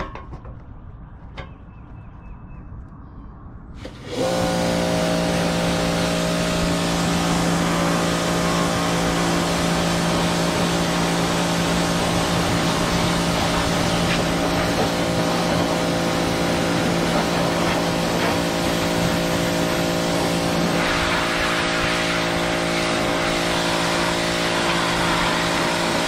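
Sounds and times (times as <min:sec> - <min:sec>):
pressure washer motor humming: 0:03.8 - 0:26.0
water jet hissing: 0:03.8 - 0:26.0.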